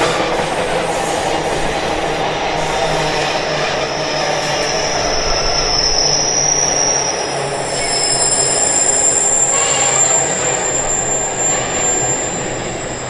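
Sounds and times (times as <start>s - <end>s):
rumble of train wagons: 0.0s - 13.0s
train wheels squealing: 0.0s - 13.0s.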